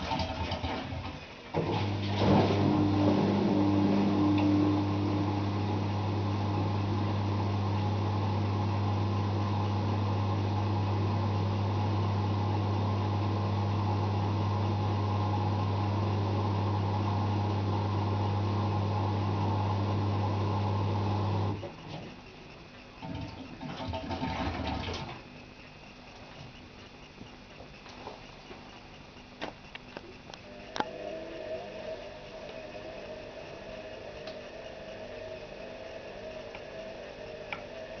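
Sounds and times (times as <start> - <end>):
washing machine spin hum: 0.0 - 38.0.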